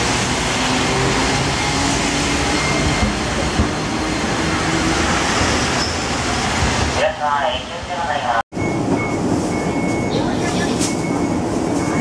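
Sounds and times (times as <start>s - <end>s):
streetcar wheels rumbling on rail: 0.0s - 12.0s.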